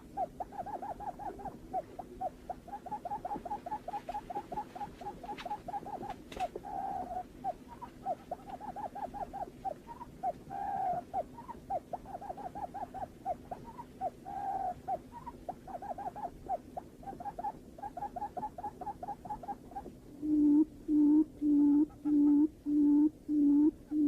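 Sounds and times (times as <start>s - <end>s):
bird calling: 0.0s - 24.0s.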